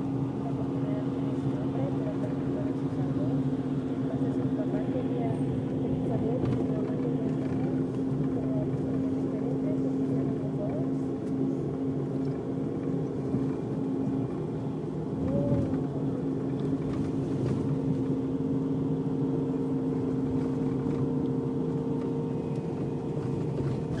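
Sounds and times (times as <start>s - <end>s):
coach engine and road drone: 0.0s - 24.0s.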